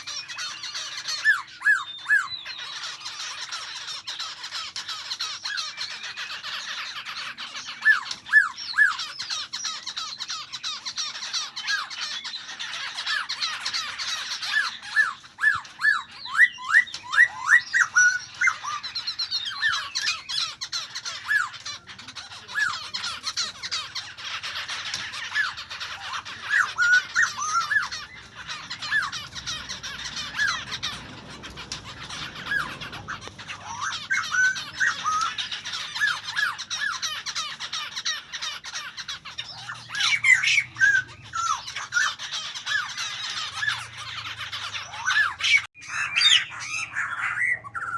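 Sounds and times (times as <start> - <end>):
birds twittering: 0.0 - 47.9
songbird calling: 0.0 - 47.9.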